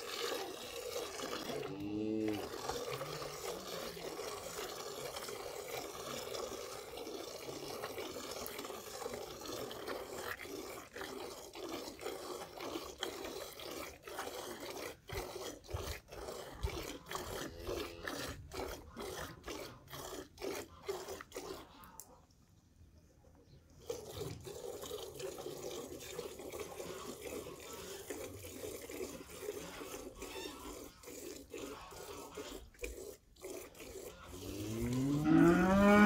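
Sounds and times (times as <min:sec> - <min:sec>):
milk squirting into metal pail: 0:00.0 - 0:22.3, 0:23.7 - 0:36.0.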